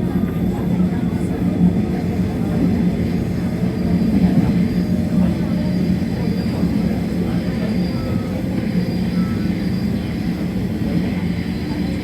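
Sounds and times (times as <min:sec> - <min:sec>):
train running rumble and hum: 0:00.0 - 0:12.0.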